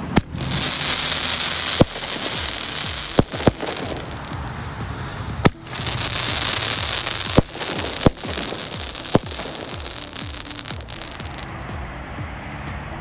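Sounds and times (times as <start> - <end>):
firework shells banging: 0.0 - 11.7
fireworks crackling: 0.0 - 12.0.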